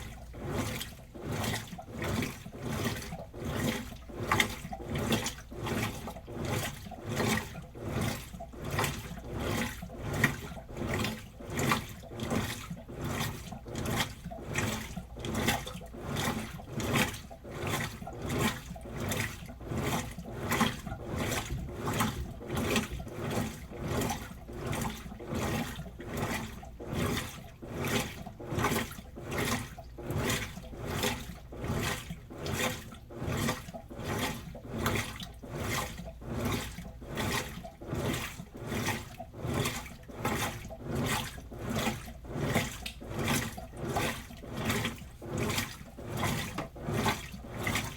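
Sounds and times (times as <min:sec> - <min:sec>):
water sloshing in washing machine: 0:00.0 - 0:47.9.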